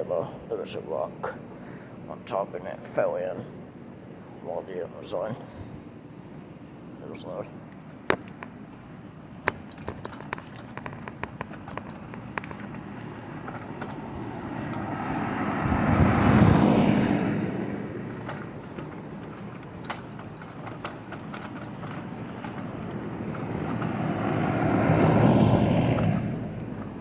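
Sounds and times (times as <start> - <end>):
air conditioner units humming: 0.0 - 27.0
vehicles passing by: 0.0 - 27.0.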